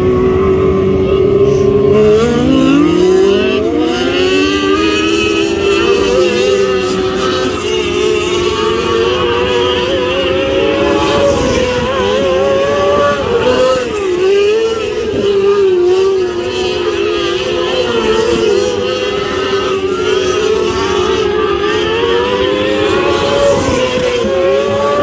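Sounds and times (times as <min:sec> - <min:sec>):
race car engines at high revs: 0:00.0 - 0:25.0.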